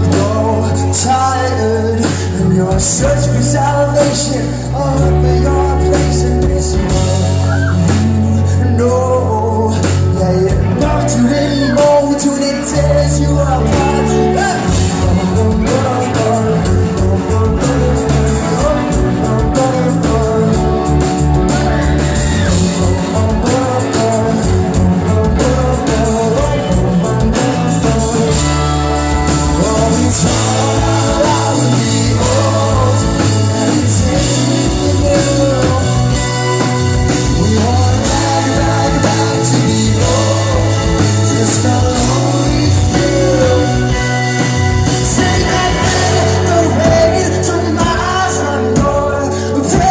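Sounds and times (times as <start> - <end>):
live rock band playing: 0.0 - 49.9
man singing: 0.0 - 49.9.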